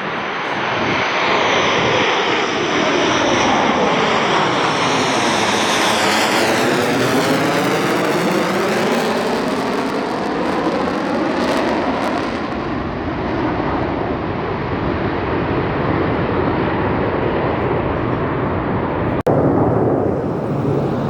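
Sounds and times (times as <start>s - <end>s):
airplane engine roar: 0.0s - 21.0s.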